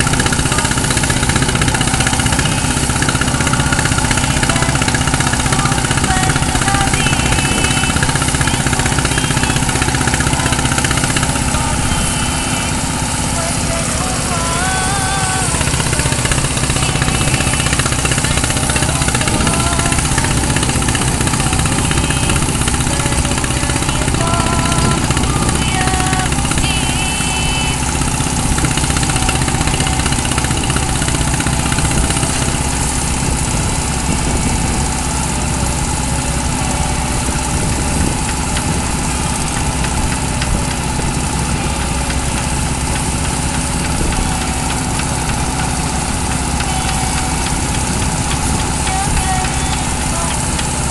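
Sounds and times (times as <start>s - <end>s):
constant hiss: 0.0s - 50.9s
heavy diesel engine running: 0.0s - 50.9s.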